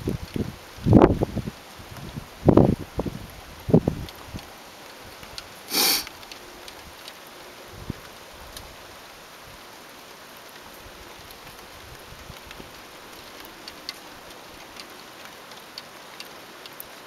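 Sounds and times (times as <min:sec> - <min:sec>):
rain falling: 0:00.0 - 0:17.0
ticks of raindrops: 0:00.0 - 0:17.0.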